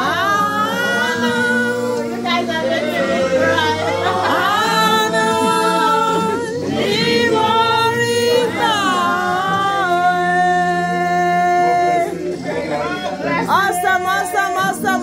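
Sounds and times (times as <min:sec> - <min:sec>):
voices singing unaccompanied: 0:00.0 - 0:15.0.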